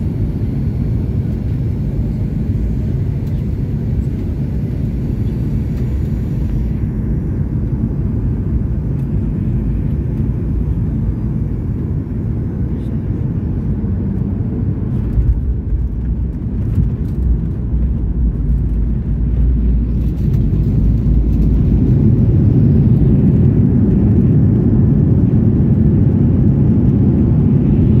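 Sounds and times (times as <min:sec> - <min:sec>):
airliner cabin rumble: 0:00.0 - 0:28.0.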